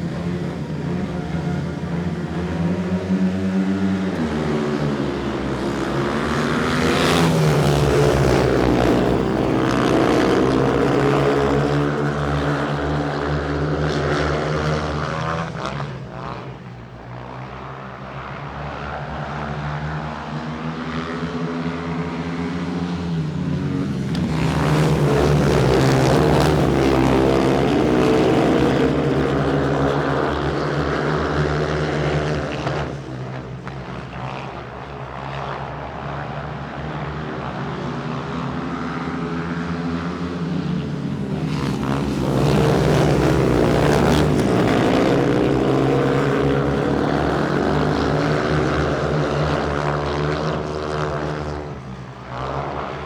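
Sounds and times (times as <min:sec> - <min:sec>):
propeller aircraft flying past: 0:00.0 - 0:53.0.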